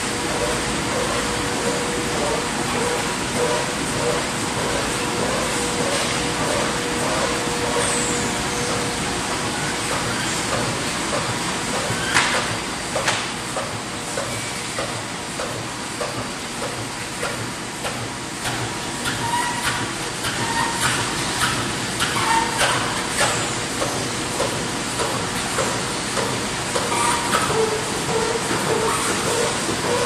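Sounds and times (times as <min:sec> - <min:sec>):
machine knocks and clacks: 0:00.2 - 0:08.0, 0:08.6 - 0:30.0.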